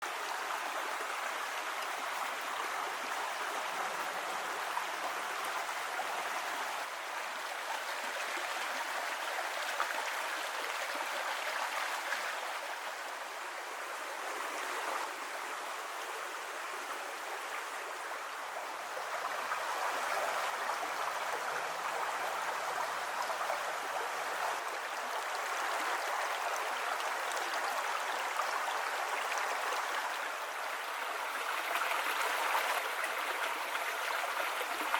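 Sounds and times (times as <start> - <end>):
creek water rushing over rocks: 0.0 - 34.9.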